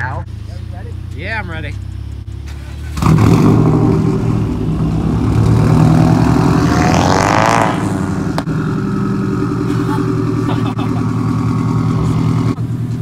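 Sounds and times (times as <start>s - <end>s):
loud car engine and exhaust: 0.0s - 13.0s.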